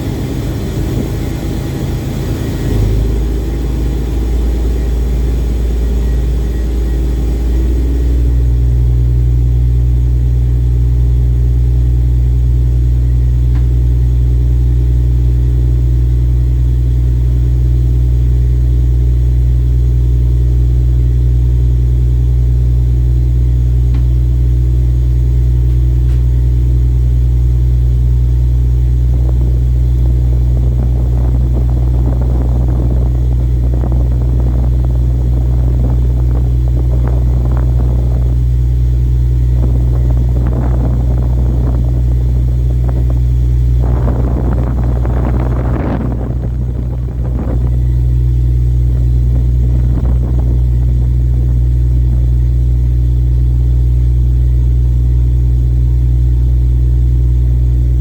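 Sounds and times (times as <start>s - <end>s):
ship engine droning: 0.0s - 58.0s.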